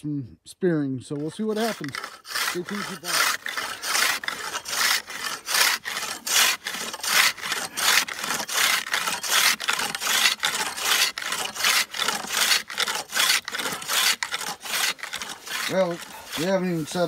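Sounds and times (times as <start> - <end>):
hand saw cutting ice: 1.2 - 17.0.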